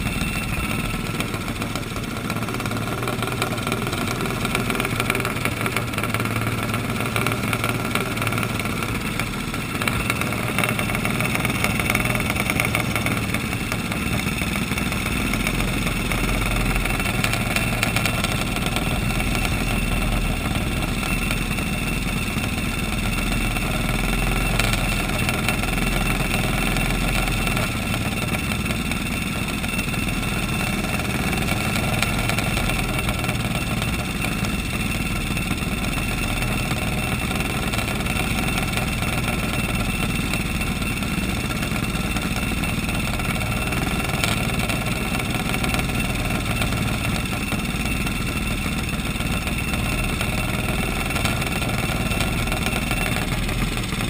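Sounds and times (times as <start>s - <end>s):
kart engines idling: 0.0s - 54.0s.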